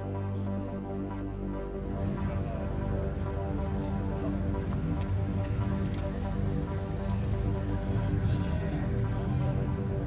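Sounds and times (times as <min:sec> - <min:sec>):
background music of sustained chords: 0:00.0 - 0:10.0.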